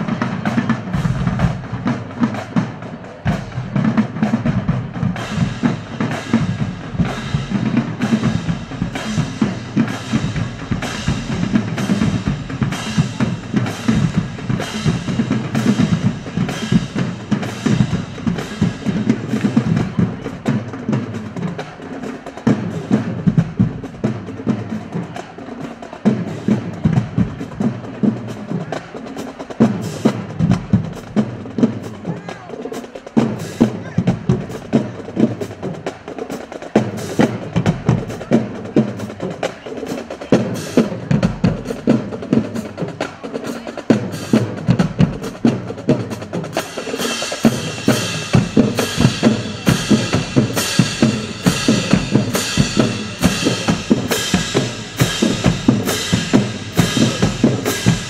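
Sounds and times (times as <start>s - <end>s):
marching drumline: 0.0s - 58.0s.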